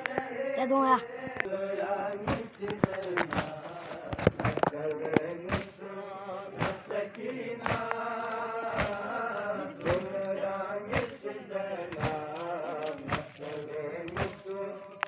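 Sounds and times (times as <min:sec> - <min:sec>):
men chanting: 0:00.0 - 0:15.0.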